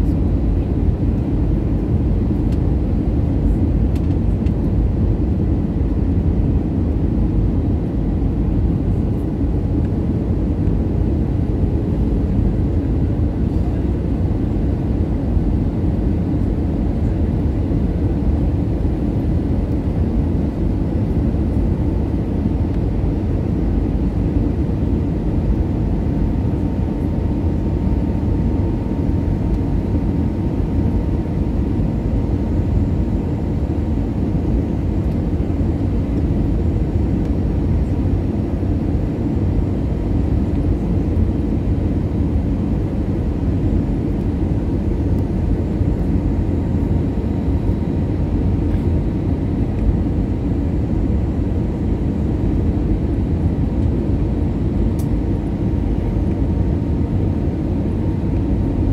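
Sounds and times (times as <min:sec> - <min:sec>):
jet engine and airflow rumble: 0:00.0 - 0:58.9.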